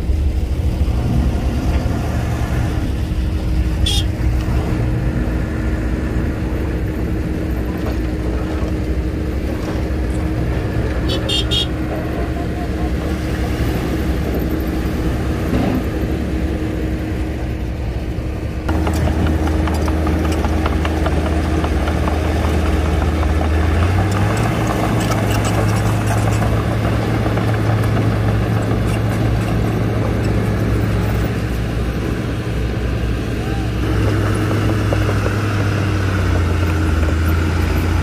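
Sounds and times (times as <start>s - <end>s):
diesel engines droning: 0.0s - 38.0s.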